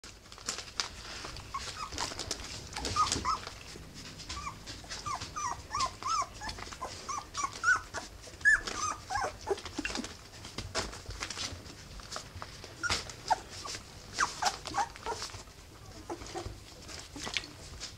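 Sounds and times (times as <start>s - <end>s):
puppies squeaking and whimpering: 1.4s - 11.4s, 12.7s - 17.8s.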